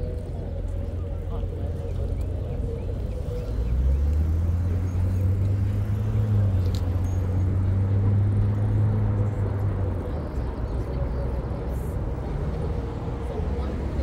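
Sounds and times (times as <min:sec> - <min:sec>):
vehicle engine passing by: 0:01.8 - 0:14.0.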